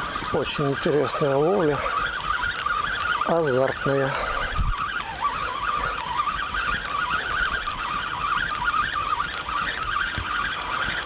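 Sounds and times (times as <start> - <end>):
fishing reel cranking whir: 0.0 - 11.0.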